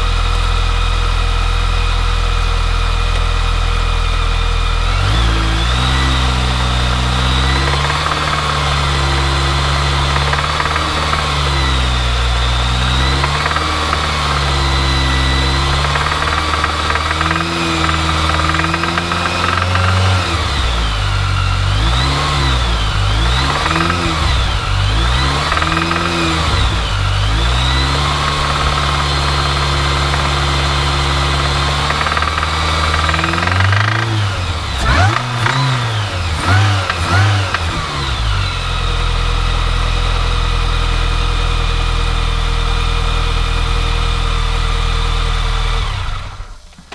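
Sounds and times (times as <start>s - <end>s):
car engine revving: 0.0s - 46.9s
engine knocking and rattling: 0.0s - 46.9s.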